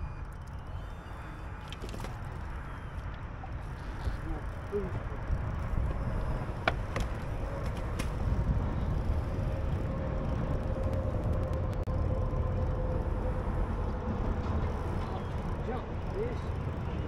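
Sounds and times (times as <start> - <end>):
faint steady hum: 0.0 - 17.0
wind and water rumble: 0.0 - 17.0.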